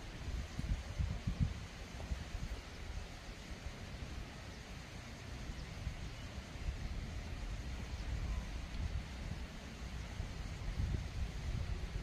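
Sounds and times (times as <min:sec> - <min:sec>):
wind buffeting microphone: 0:00.0 - 0:04.4, 0:05.2 - 0:12.0
steady outdoor hiss: 0:00.0 - 0:12.0.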